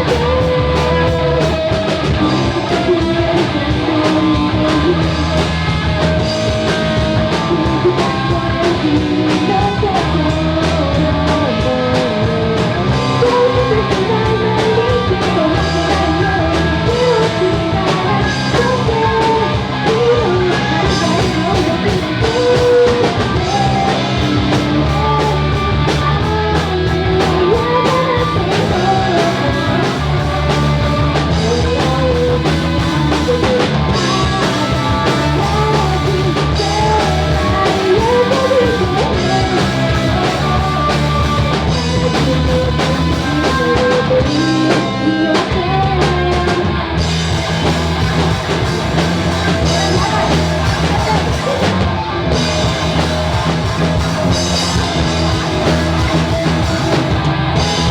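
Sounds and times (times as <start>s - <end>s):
person singing: 0.0s - 46.8s, 48.4s - 57.9s
bass guitar: 0.0s - 57.9s
drums: 0.0s - 57.9s
guitar: 0.0s - 57.9s.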